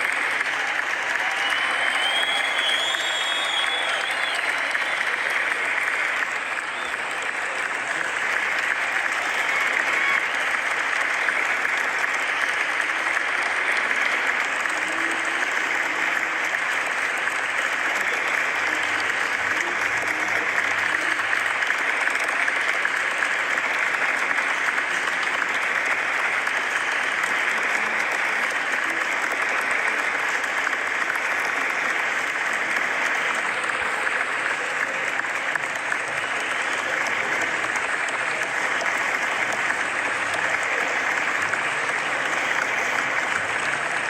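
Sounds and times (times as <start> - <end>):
crowd applause: 0.0 - 44.0.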